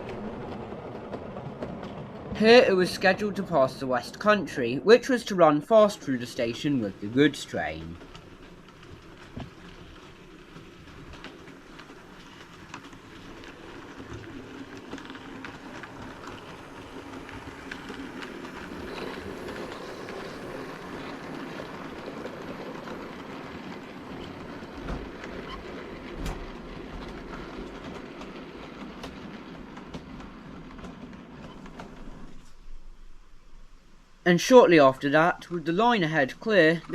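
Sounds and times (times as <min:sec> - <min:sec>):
clicks over rail joints: 0:00.0 - 0:04.3, 0:06.0 - 0:32.9
model train rumbling on track: 0:00.0 - 0:36.9.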